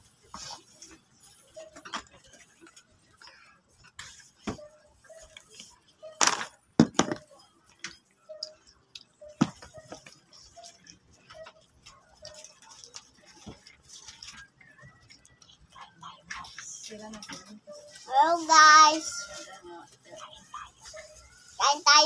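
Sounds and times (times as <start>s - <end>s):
children handling snacks at table: 0.1s - 22.0s.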